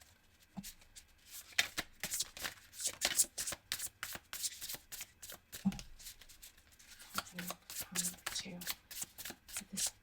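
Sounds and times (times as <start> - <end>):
cards being shuffled: 0.6 - 10.0.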